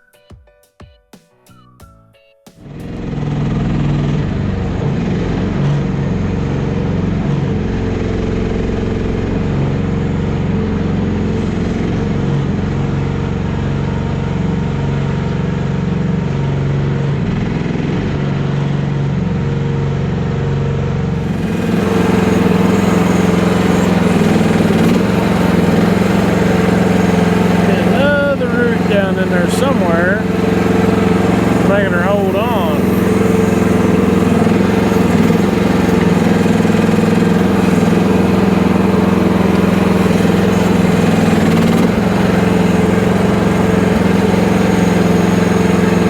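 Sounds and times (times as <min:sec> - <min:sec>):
mini excavator engine running: 0:02.6 - 0:46.0.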